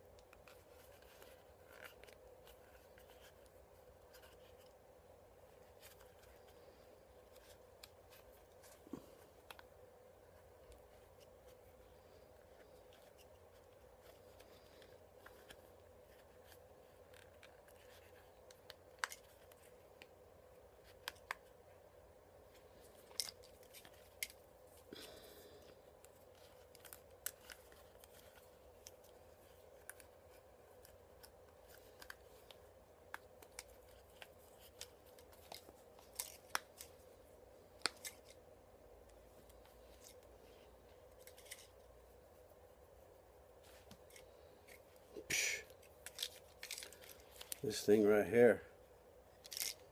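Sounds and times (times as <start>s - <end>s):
steady room hum: 0.0s - 49.9s.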